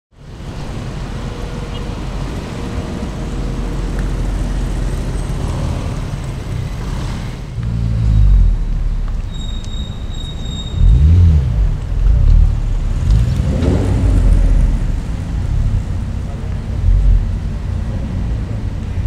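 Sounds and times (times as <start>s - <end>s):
car engine rumbling: 0.2s - 19.0s
deeper car engine rumble: 0.3s - 19.0s.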